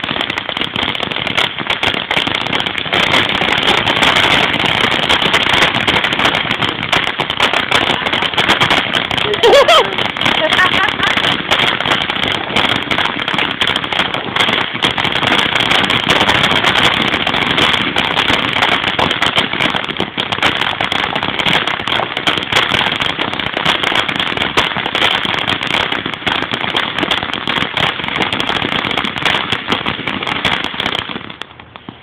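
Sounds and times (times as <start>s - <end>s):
firework crackling: 0.0s - 32.0s
firework hissing: 0.0s - 32.0s.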